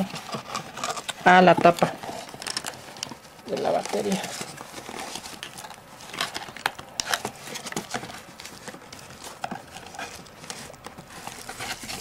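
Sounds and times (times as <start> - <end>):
hand rummaging in cardboard box: 0.0 - 12.0.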